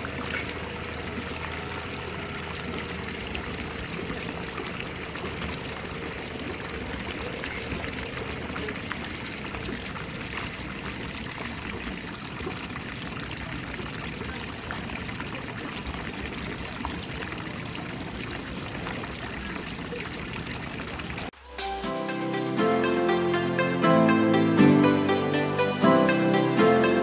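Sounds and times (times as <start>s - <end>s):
pool water running and splashing: 0.0s - 27.0s.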